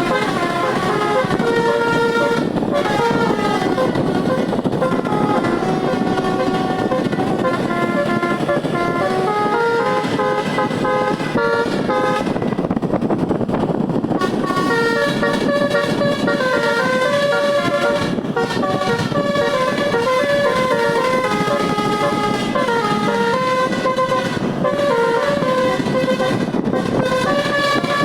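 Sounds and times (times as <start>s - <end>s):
bus air horns playing a tune: 0.0s - 28.0s
bus engine rumble: 0.0s - 28.0s.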